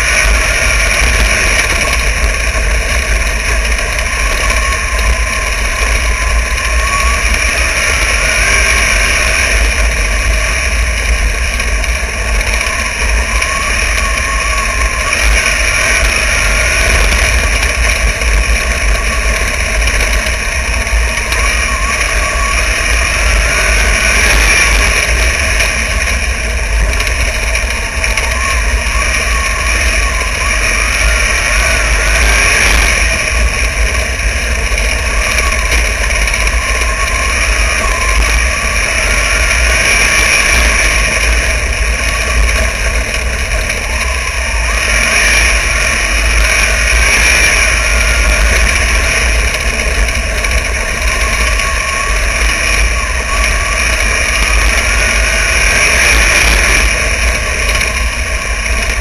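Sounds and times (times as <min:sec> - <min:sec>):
race car engine running hard: 0:00.0 - 0:59.0
wind buffeting microphone: 0:00.0 - 0:59.0.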